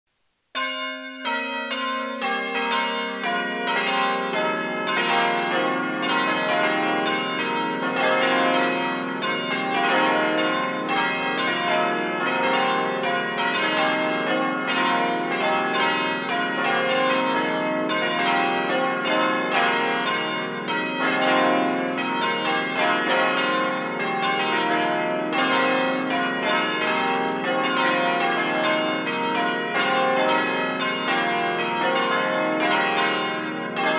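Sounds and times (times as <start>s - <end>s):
church bells ringing: 0.6s - 33.9s.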